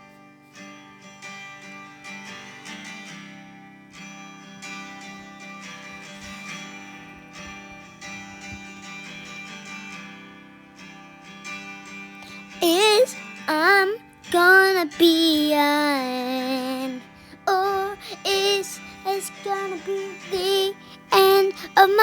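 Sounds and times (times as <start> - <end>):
acoustic guitar strumming: 0.4 - 22.0.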